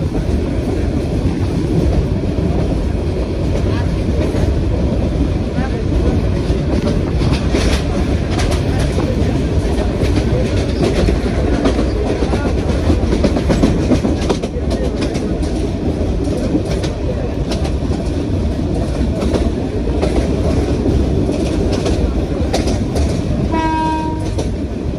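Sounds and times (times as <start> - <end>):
clacks over rail joints: 0.0 - 24.9
train wheels rumbling on rails: 0.0 - 24.9.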